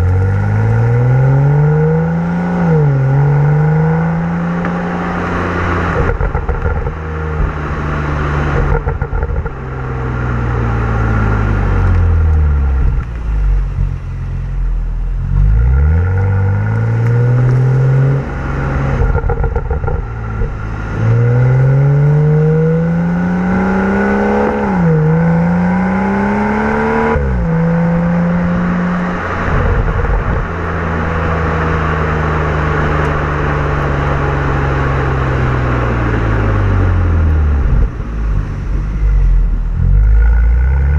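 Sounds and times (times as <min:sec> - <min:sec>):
car engine accelerating and shifting: 0:00.0 - 0:40.9.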